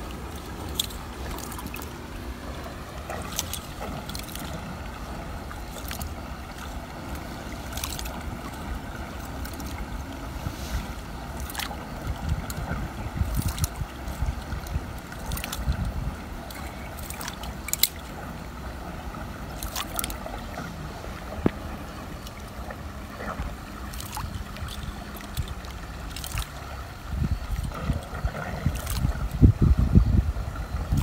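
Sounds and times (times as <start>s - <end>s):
water trickling and dripping: 0.0s - 31.0s.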